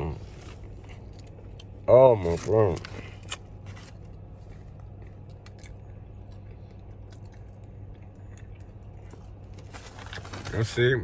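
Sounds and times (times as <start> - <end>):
steady low hum: 0.0 - 11.0
person chewing: 0.1 - 10.2.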